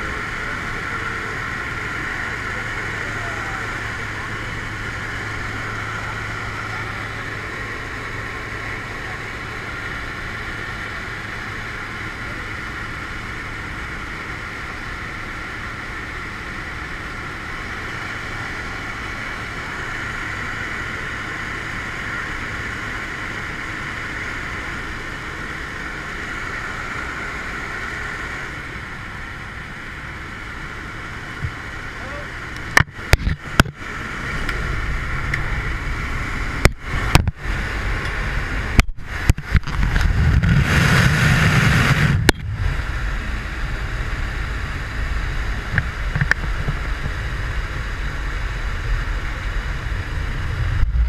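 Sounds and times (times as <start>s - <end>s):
airflow noise: 0.0s - 51.0s
plane engine and propeller drone: 0.0s - 51.0s.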